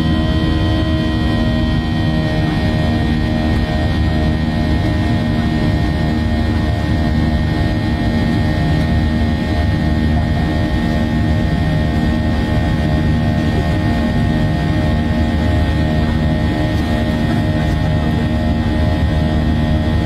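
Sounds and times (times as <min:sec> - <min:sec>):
jet engines droning in cabin: 0:00.0 - 0:20.0.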